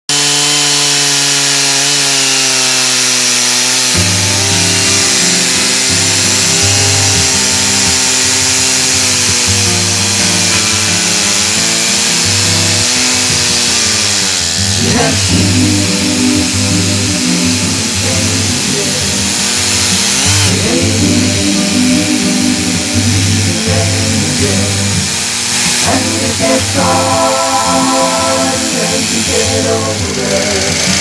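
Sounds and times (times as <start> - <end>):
chainsaw milling a log: 0.1 - 31.0.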